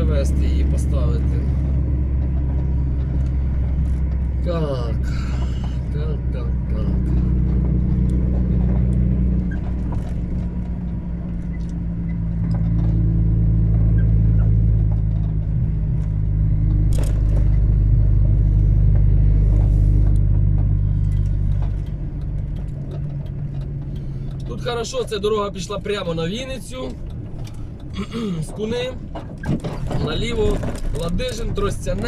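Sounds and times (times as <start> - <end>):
truck engine droning: 0.0 - 32.0.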